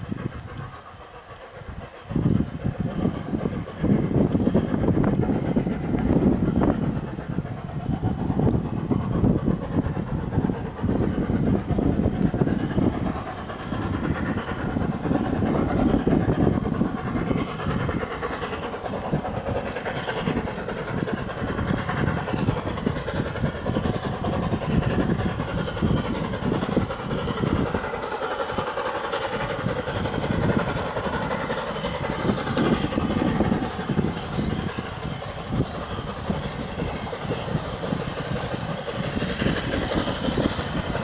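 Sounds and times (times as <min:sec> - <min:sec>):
steam train running: 0:00.0 - 0:41.0.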